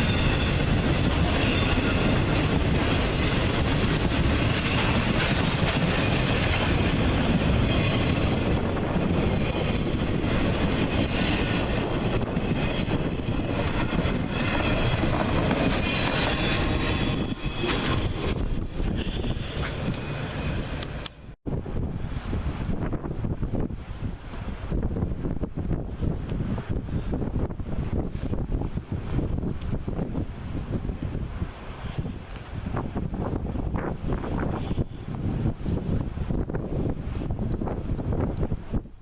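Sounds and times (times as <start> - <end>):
train wheels on rails: 0.0 - 21.4, 25.8 - 39.0.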